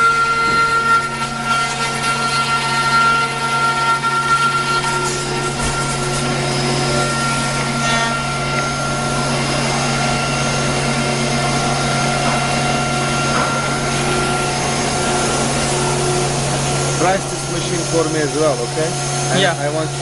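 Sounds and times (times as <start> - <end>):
machinery whining tones: 0.0 - 20.0
workshop machinery humming: 0.0 - 20.0.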